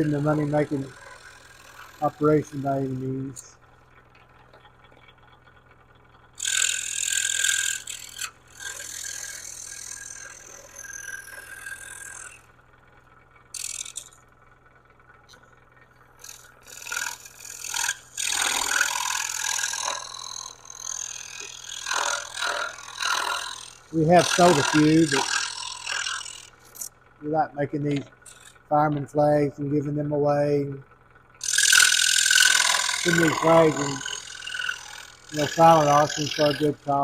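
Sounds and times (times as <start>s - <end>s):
scroll saw cutting wood: 0.0s - 3.5s, 6.4s - 12.6s, 13.5s - 14.3s, 16.2s - 30.7s, 31.4s - 37.0s.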